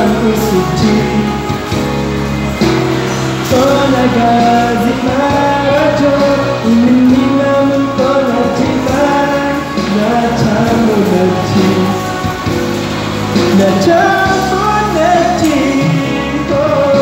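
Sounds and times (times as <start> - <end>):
man singing into a microphone: 0.0 - 2.0, 2.8 - 17.0
karaoke backing track: 0.0 - 17.0.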